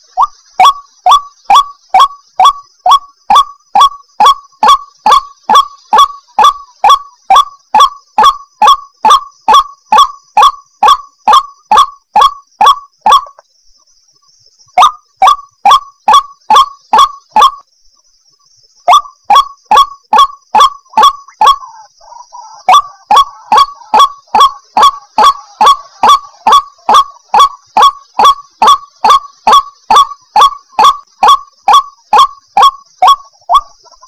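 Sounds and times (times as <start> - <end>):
waterhen calling: 0.0 - 13.4, 14.8 - 17.6, 18.9 - 34.0
faint high-pitched hiss: 0.0 - 34.0.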